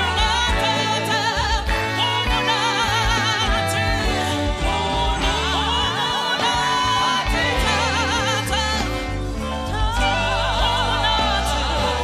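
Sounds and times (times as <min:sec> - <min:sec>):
bass line: 0:00.0 - 0:12.0
voices singing with vibrato: 0:00.0 - 0:12.0.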